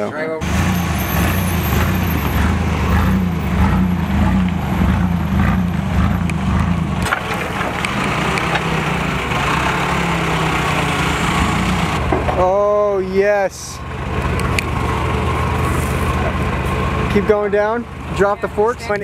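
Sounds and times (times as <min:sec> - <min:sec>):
pickup truck engine rumble: 0:00.4 - 0:19.0.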